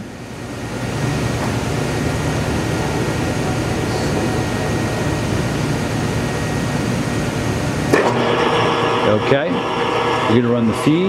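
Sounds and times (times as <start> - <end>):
metal lathe running: 0.0 - 11.0.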